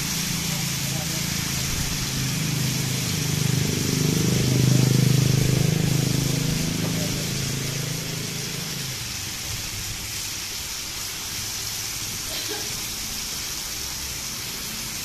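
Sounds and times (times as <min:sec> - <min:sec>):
food sizzling in skillets: 0:00.0 - 0:15.0.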